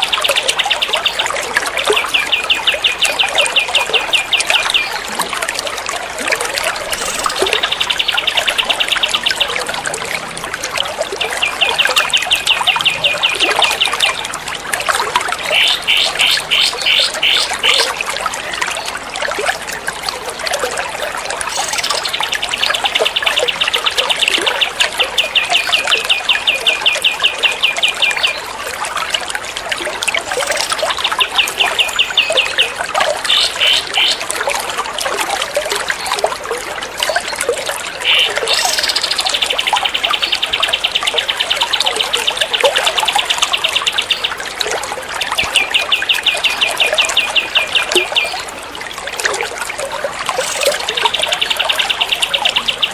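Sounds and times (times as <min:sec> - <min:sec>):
trickling water: 0:00.0 - 0:52.9.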